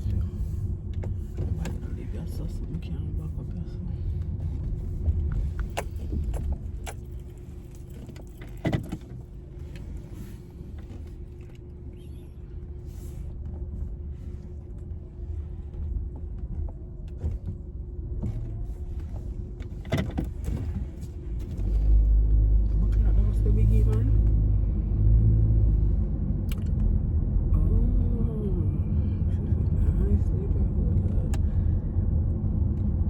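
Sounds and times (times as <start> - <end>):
car engine low rumble: 0.0 - 33.0.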